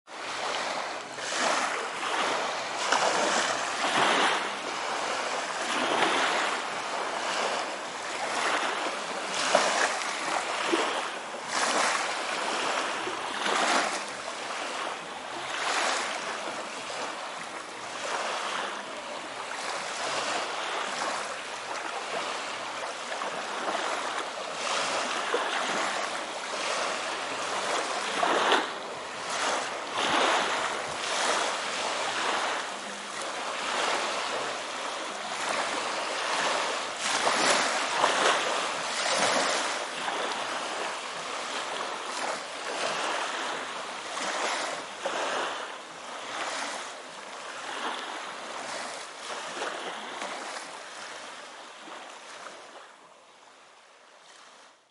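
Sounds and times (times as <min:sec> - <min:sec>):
small waves lapping on shore: 0:00.1 - 0:54.9.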